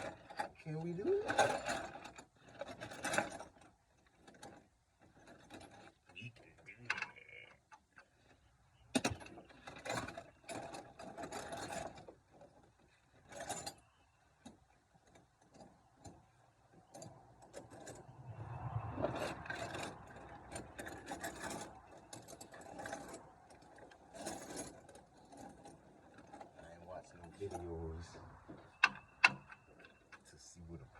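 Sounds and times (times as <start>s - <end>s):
metal clinks and rattles: 0.0s - 6.7s, 7.8s - 30.5s.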